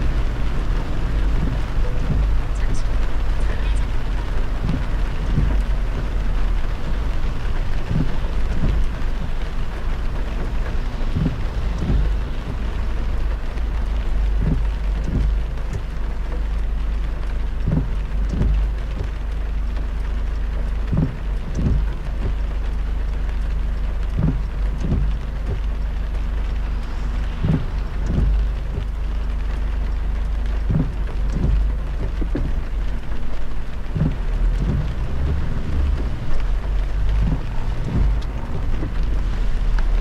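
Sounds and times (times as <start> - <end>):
car tyres on a wet road: 0.0 - 40.0
heavy rain on a car: 0.0 - 40.0.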